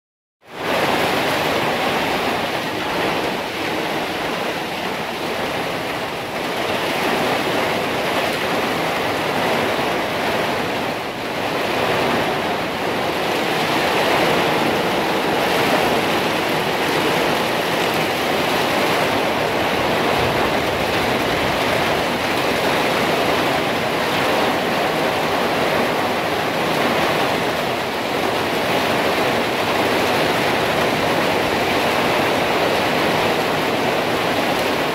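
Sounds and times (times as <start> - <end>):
rain hissing on trees and ground: 0.5 - 34.9.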